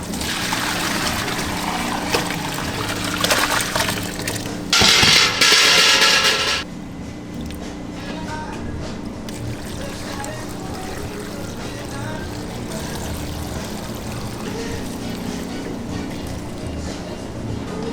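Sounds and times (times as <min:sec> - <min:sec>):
hard water gush: 0:00.0 - 0:06.6, 0:09.2 - 0:17.8
running water splashing: 0:00.0 - 0:06.6, 0:09.3 - 0:17.6.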